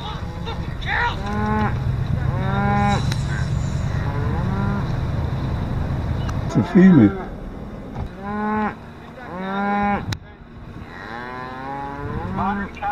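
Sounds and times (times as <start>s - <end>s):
cattle mooing: 0.0s - 10.2s, 10.8s - 12.9s
steady low rumble: 0.0s - 12.9s.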